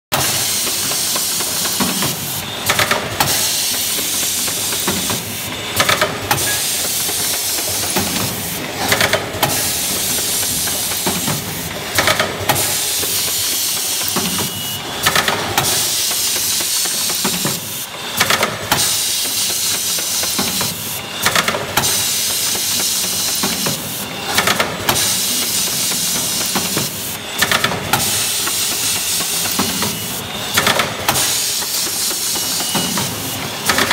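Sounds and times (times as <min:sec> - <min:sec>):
packing machine hiss: 0:00.2 - 0:33.9
pneumatic cylinder clacks: 0:00.2 - 0:33.9.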